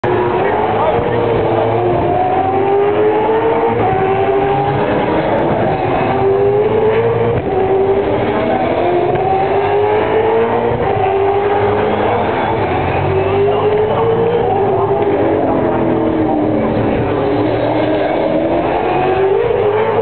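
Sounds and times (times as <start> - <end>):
race car engines accelerating: 0.0 - 20.0.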